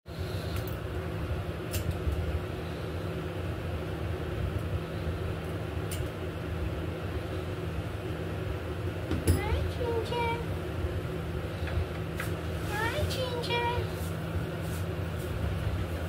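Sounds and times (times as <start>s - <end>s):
low machine hum: 0.1s - 16.0s.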